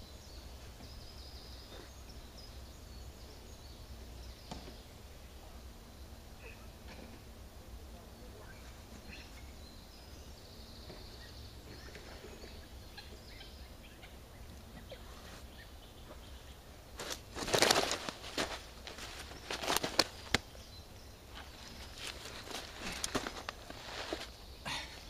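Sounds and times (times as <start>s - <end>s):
faint birdsong: 0.0s - 25.0s
low steady hum: 0.0s - 25.0s.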